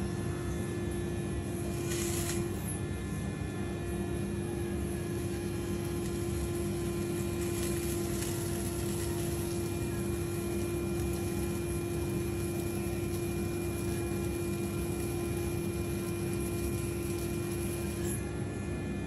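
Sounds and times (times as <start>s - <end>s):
electric sausage stuffer humming: 0.0s - 19.0s.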